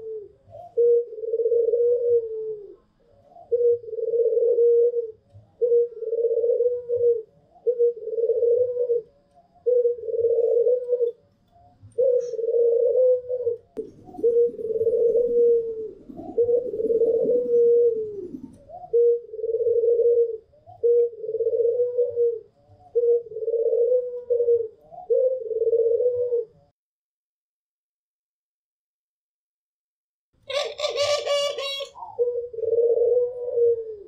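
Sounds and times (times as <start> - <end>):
doves cooing: 0.0 - 26.7, 30.4 - 34.0.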